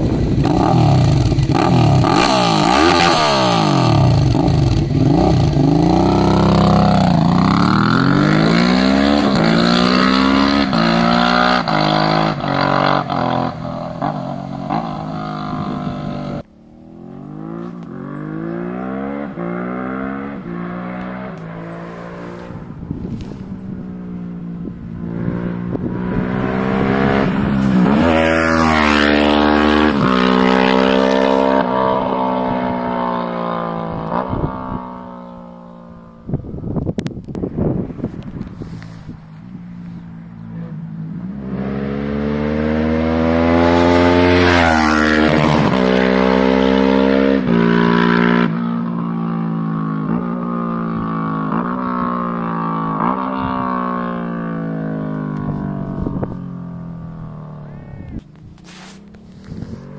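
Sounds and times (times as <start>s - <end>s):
motorcycle accelerating through gears: 0.0s - 59.9s.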